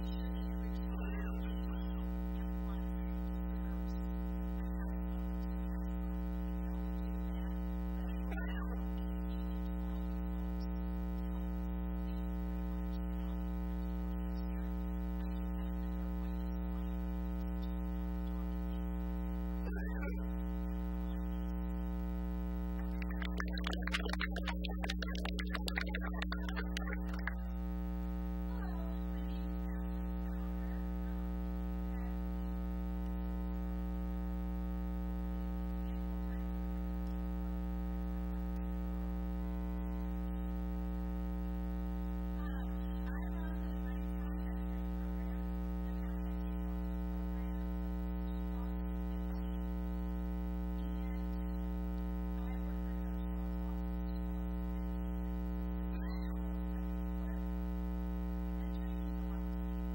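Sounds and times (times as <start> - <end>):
faint voice: 0.0 - 21.9, 22.7 - 59.9
electrical mains hum: 0.0 - 59.9.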